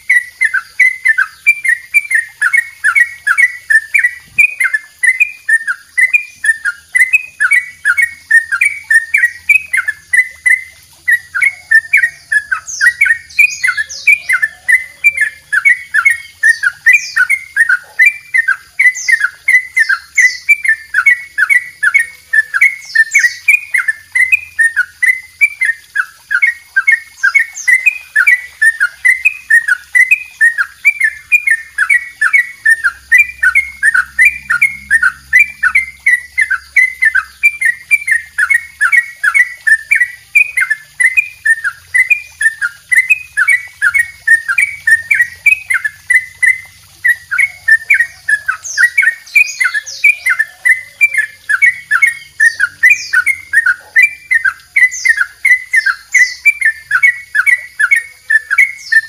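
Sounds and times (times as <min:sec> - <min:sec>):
bulbul singing rapid notes: 0:00.0 - 0:59.0.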